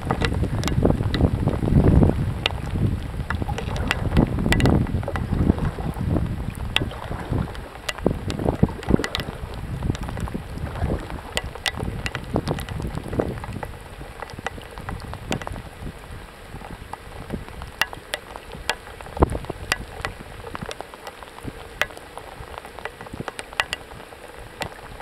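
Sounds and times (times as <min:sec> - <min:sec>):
rain falling: 0:00.0 - 0:25.0
raindrops ticking on a surface: 0:00.0 - 0:25.0.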